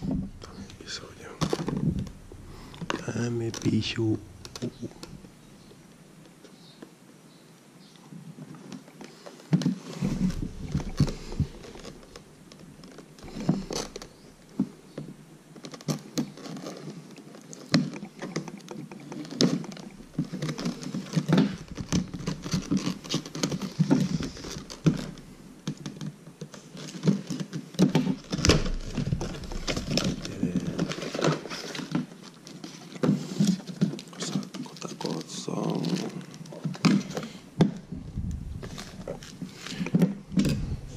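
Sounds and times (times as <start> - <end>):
packaging rustling and scraping: 0.0 - 5.8, 8.4 - 40.9.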